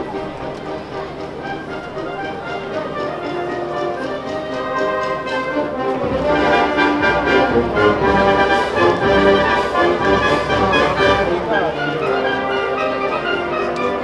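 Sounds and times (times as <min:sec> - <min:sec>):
instrumental music with held notes: 0:00.0 - 0:14.0.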